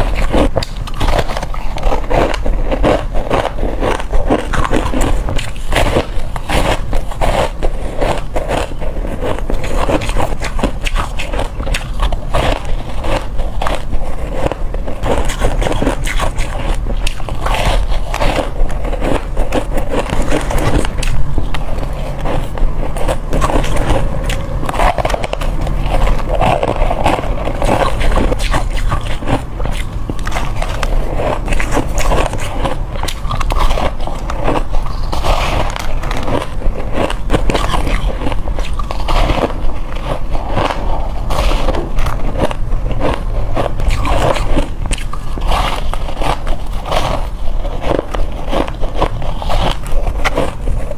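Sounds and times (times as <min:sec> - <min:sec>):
person crunching ice: 0:00.0 - 0:50.9.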